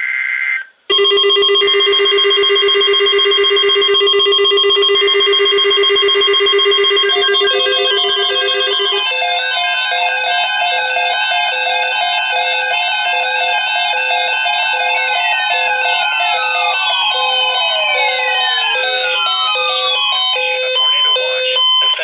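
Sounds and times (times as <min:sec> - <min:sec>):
weather alert radio beeps: 0:00.9 - 0:22.0.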